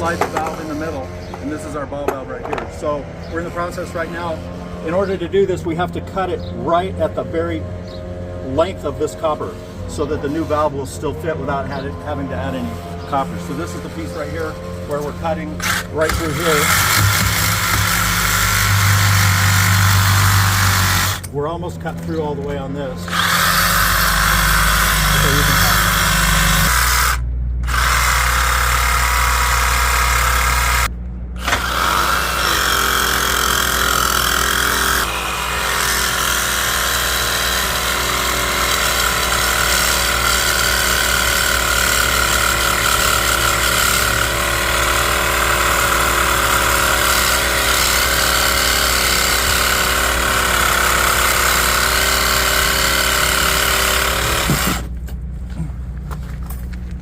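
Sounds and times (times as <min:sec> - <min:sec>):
power tool cutting metal pipe: 0:00.0 - 0:05.4, 0:08.6 - 0:21.3, 0:22.4 - 0:54.9.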